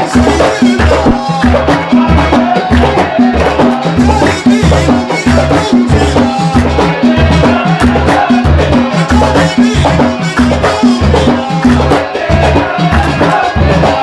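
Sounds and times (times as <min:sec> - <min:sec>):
deep drums beating: 0:00.0 - 0:14.0
hand percussion: 0:00.0 - 0:14.0.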